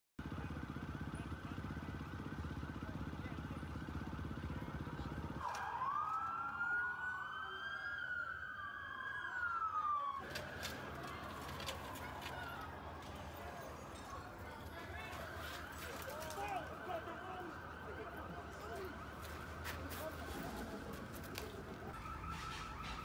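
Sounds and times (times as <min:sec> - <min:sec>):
police siren yelp: 0:00.2 - 0:23.0
siren wails rising and falling: 0:03.7 - 0:21.2, 0:21.8 - 0:23.0.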